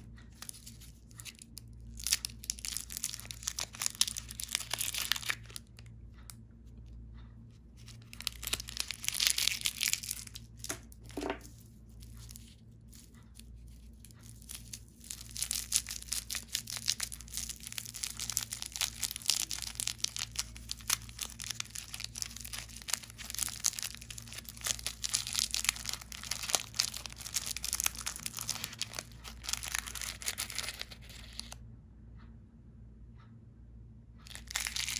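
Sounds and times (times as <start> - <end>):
faint low hum: 0.0 - 34.9
foil wrapper crinkling: 0.4 - 5.7, 7.8 - 31.6, 34.3 - 34.9.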